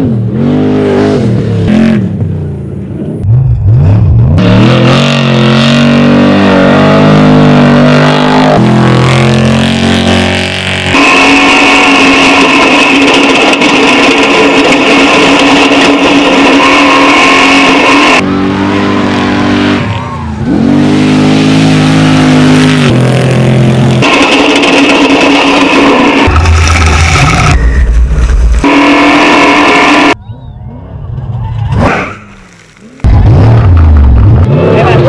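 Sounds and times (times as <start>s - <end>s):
truck engine revving high: 0.0s - 31.1s, 31.7s - 35.0s.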